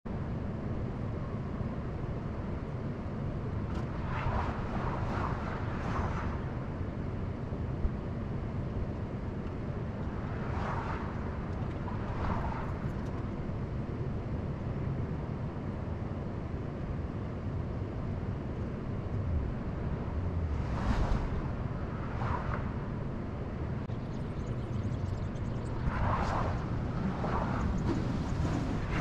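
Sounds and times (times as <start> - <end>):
low outdoor rumble: 0.1 - 29.0
vehicle noise: 0.1 - 29.0.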